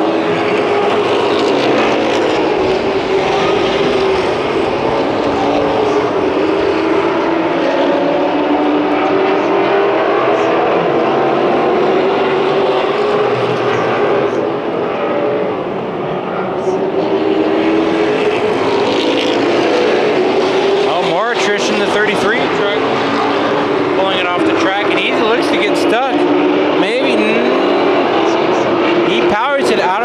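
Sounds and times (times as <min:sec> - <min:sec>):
race truck engines: 0:00.0 - 0:30.0.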